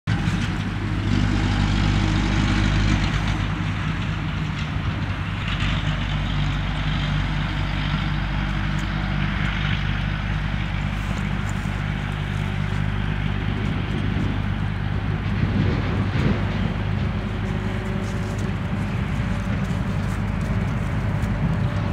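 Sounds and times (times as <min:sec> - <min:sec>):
car engine idling: 0:00.1 - 0:21.9.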